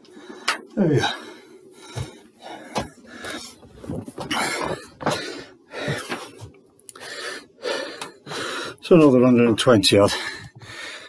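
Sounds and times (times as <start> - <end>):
man breathing hard: 0.0 - 8.8, 10.1 - 11.0.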